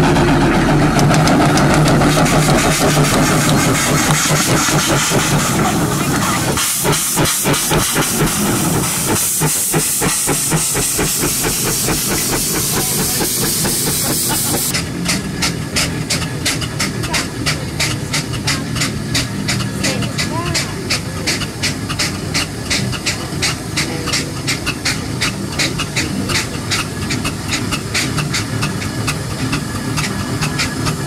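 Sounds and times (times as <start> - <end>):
steam engine chuffing beat: 0.0 - 31.0
steam engine hissing: 0.0 - 31.0.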